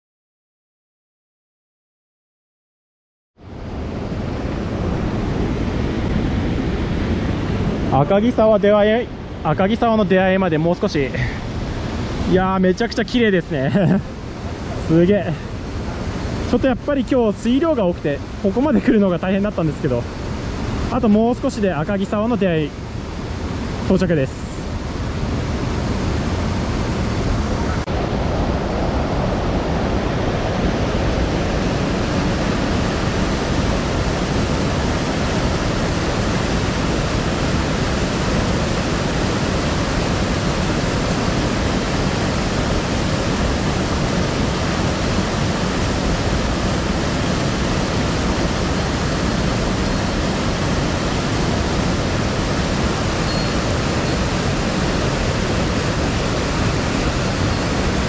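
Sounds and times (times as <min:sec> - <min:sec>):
river rushing: 0:03.4 - 0:58.0.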